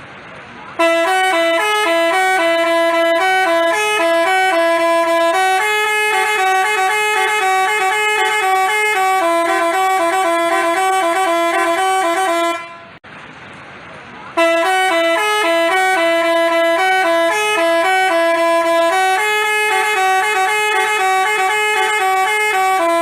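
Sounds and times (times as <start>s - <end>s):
musical bus air horn melody: 0.7s - 13.0s, 14.4s - 23.0s.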